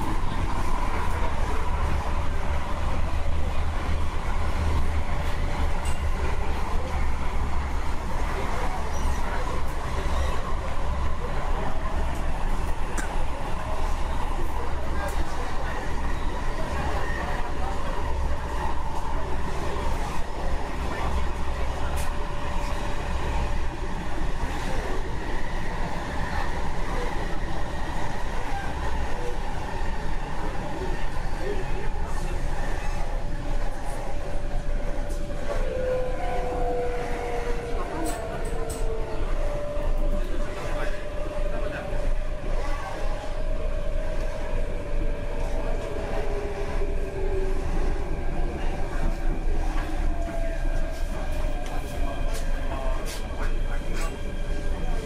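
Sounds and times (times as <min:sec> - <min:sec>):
train interior rumble: 0:00.0 - 0:55.0.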